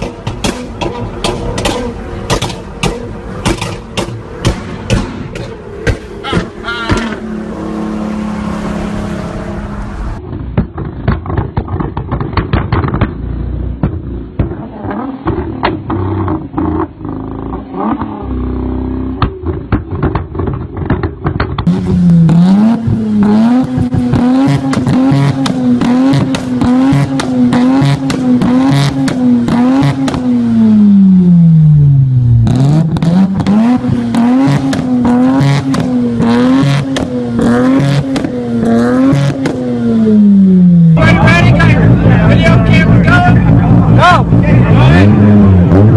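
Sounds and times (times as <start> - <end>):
exhaust pops and crackles: 0.0 - 7.2, 10.2 - 30.4, 32.4 - 39.7, 41.0 - 45.9
car engines revving hard: 0.0 - 45.9.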